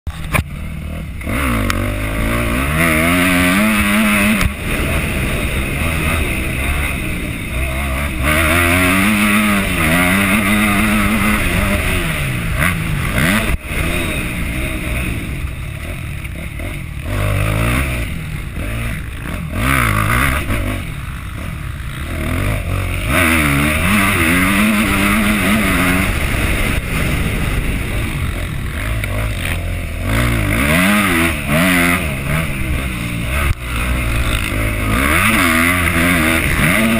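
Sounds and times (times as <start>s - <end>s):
motocross bike engine revving: 0.1s - 36.9s.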